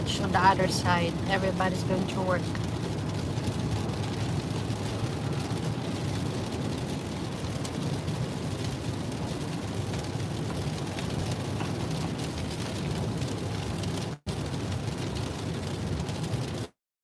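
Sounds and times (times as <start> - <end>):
rain on car: 0.0 - 16.8
tyres on wet road: 0.0 - 16.8.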